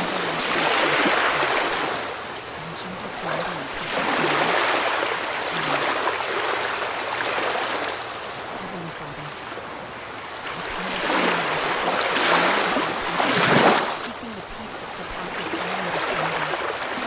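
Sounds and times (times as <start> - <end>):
ocean surf washing in: 0.0 - 17.0.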